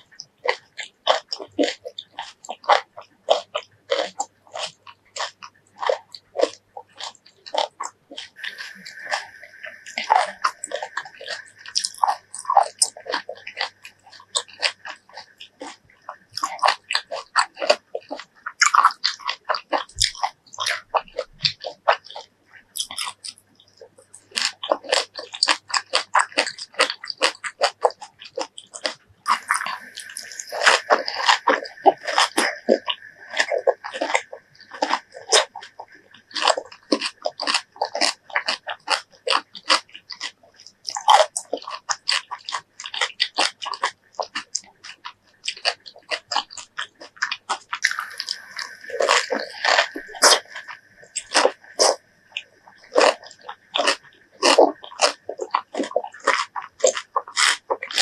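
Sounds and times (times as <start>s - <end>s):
biting and chewing fruit: 0.0s - 58.0s
wet mouth sounds: 0.0s - 58.0s.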